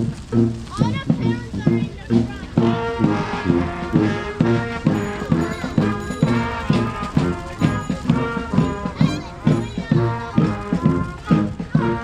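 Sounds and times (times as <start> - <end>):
brass band playing marching music: 0.0 - 12.0.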